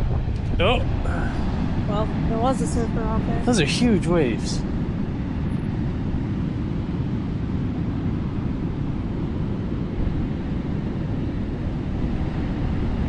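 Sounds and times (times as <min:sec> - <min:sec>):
heavy surf: 0:00.0 - 0:13.0
wind buffeting microphone: 0:00.0 - 0:13.0.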